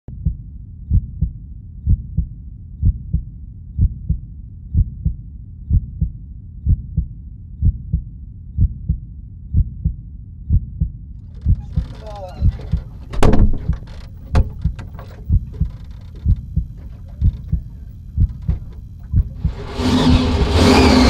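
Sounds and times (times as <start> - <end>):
heartbeat double thumps: 0.1 - 21.0
low steady rumble: 0.1 - 21.0.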